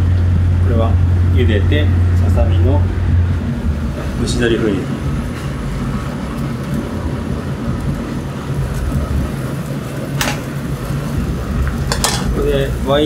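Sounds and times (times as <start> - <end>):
gas burners rumbling: 0.0 - 13.0.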